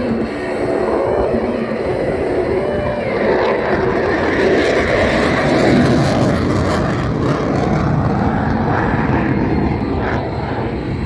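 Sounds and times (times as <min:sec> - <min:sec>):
loud jet roar: 0:00.0 - 0:11.0.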